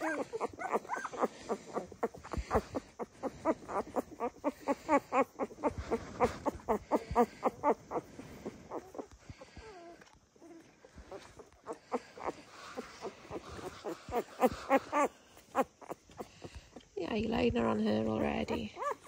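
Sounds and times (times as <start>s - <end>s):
puppies squeaking and whimpering: 0.0s - 19.0s.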